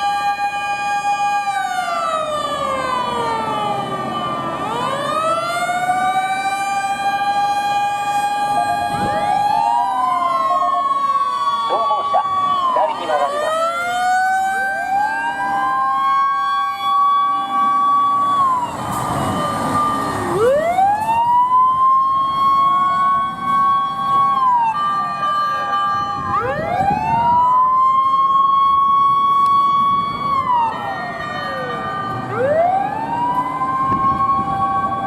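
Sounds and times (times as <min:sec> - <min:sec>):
fire engine sirens wailing: 0:00.0 - 0:35.0.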